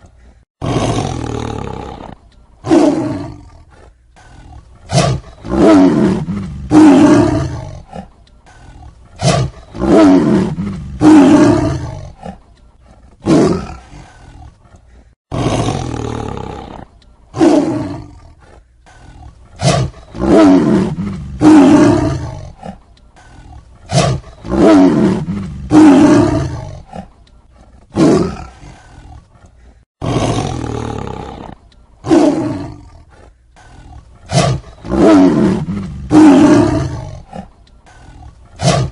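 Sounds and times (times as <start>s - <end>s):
tiger roaring: 0.6s - 38.9s.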